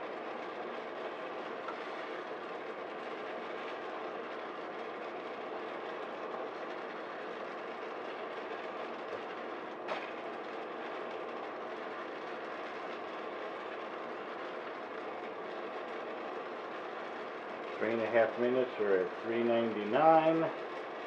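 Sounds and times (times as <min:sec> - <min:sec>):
oven fan whirring: 0:00.0 - 0:21.0.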